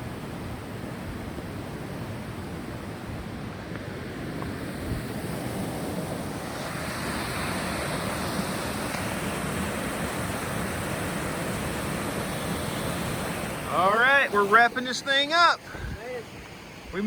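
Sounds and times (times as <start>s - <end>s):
rushing creek water: 0.0s - 17.0s.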